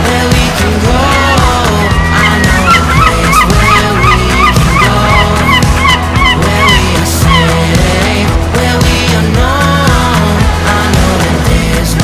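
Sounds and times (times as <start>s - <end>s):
instrumental music with bent notes: 0.0s - 12.0s
steady bass: 0.0s - 12.0s.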